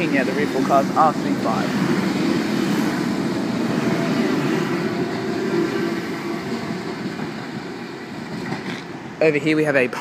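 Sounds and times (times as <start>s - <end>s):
electric train rolling past: 0.0s - 10.0s.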